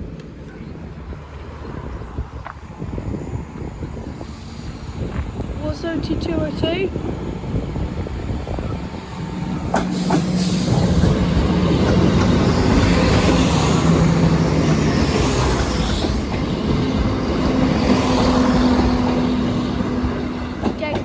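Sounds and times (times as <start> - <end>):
diesel train passing: 0.0 - 21.0.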